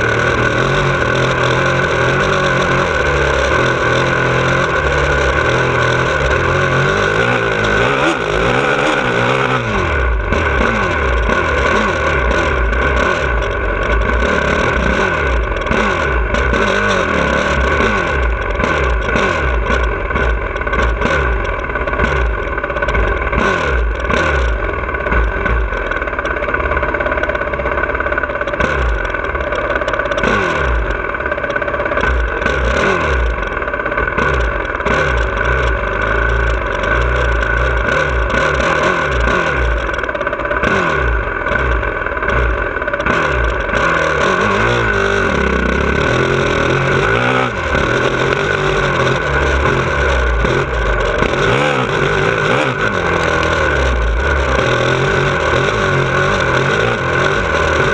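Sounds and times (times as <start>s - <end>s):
motocross engine revving: 0.0s - 57.9s.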